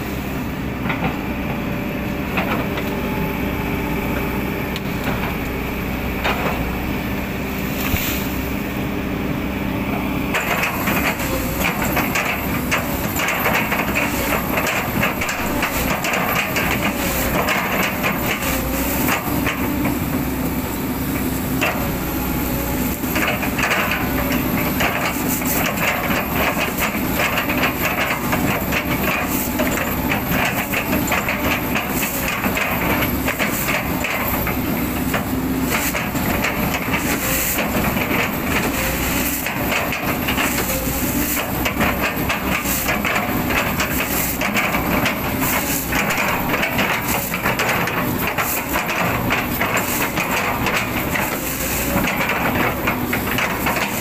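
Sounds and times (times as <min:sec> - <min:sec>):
excavator engine humming: 0:00.0 - 0:54.0.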